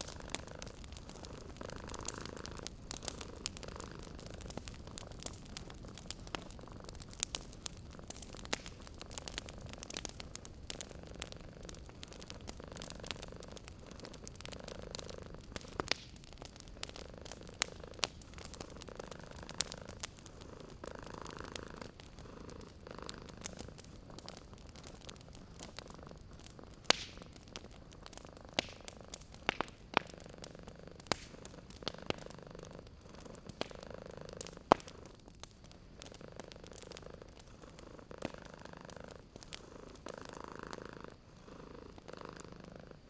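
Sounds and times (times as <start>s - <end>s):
cat purring: 0.0s - 43.0s
wood fire crackling and popping: 0.0s - 43.0s.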